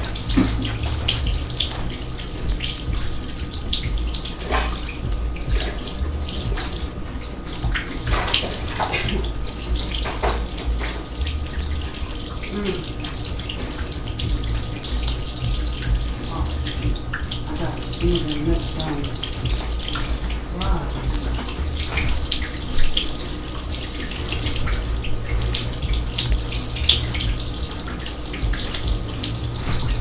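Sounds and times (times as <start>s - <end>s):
water running from a tap: 0.0s - 30.0s
water splashing: 0.0s - 30.0s.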